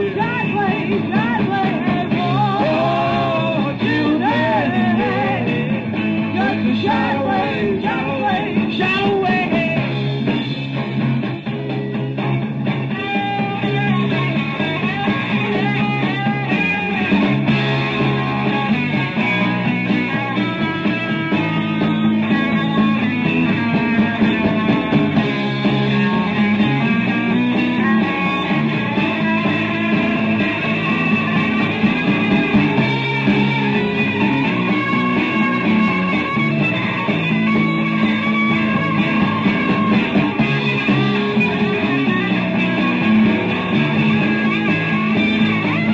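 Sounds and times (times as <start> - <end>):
rock band music: 0.0 - 45.9.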